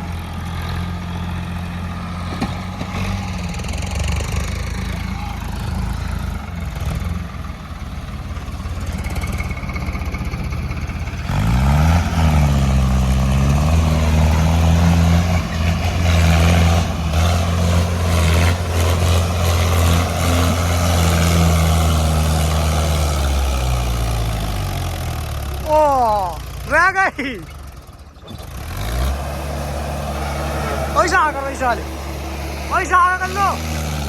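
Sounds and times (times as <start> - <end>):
tractor diesel engine revving: 0.0 - 34.0.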